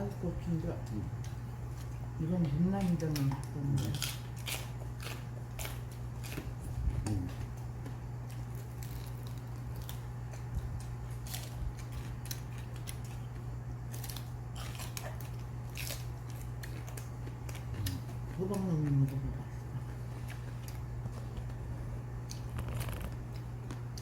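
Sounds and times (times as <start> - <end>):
chewing and crunching food: 0.0 - 24.0
steady low hum: 0.0 - 24.0.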